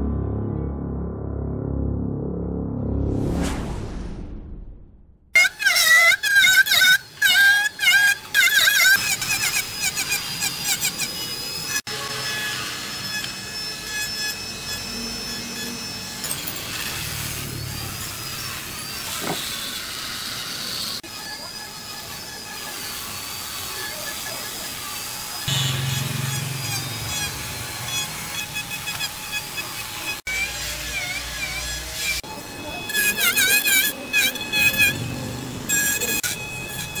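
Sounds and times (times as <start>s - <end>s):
rotary tool grinding wood: 5.4s - 37.0s.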